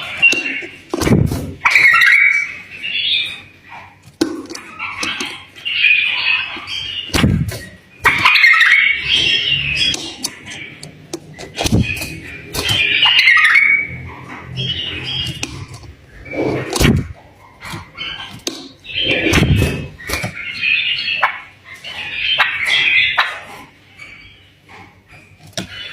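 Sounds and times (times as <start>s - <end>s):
bird singing warbled phrases: 0.0s - 25.9s.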